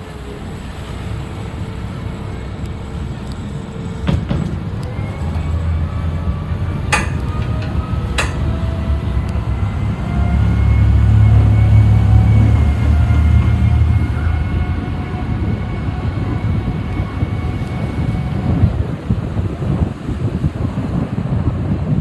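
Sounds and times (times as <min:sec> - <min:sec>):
ferry engines droning: 0:00.0 - 0:22.0.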